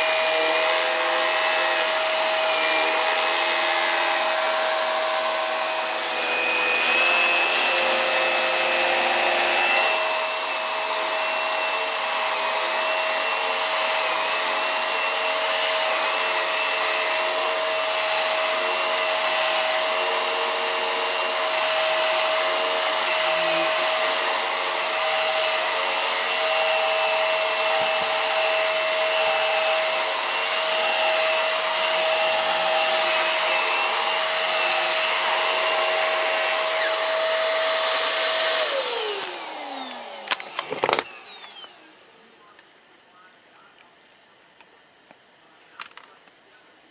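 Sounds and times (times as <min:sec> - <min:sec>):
vacuum cleaner running on carpet: 0:00.0 - 0:42.1.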